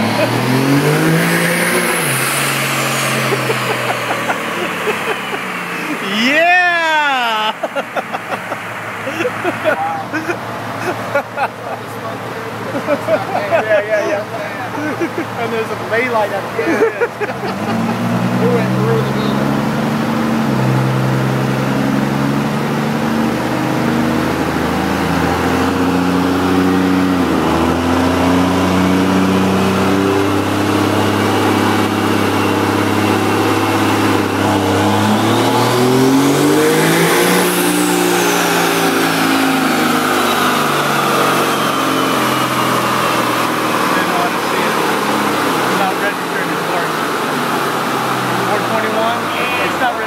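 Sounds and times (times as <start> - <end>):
diesel engine revving under load: 0.0 - 50.0.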